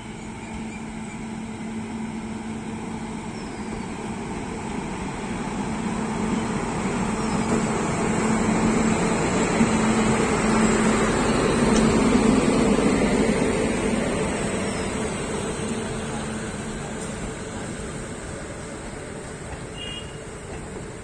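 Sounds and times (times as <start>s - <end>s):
electric locomotive passing: 0.0s - 21.0s
passenger coaches rolling by: 0.0s - 21.0s.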